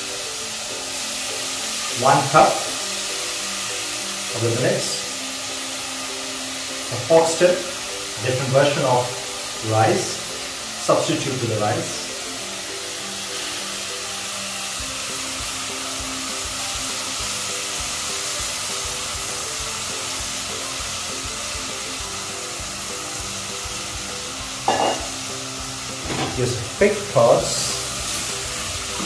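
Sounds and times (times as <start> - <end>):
faint background music: 0.0 - 29.0
vegetables sizzling in a pot: 0.0 - 29.0.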